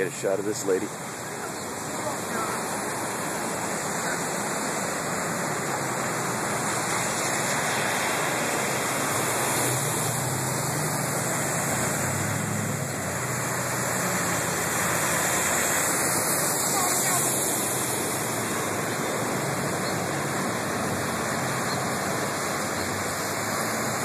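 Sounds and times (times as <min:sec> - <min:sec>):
car engine hum: 0:00.0 - 0:24.0
cars splashing through floodwater: 0:00.0 - 0:24.0.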